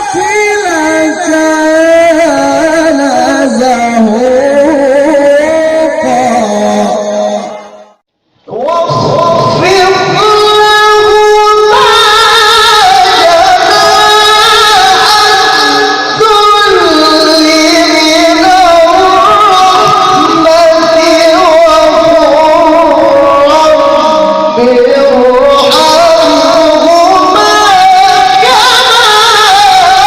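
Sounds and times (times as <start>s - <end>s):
man reciting melodically: 0.0s - 30.0s.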